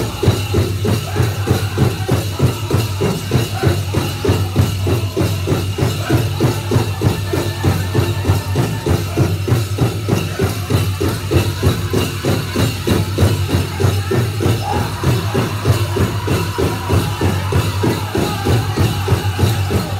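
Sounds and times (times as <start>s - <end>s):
bass drum beating fast: 0.0s - 19.9s
bells jingling: 0.0s - 19.9s
people singing: 0.0s - 19.9s.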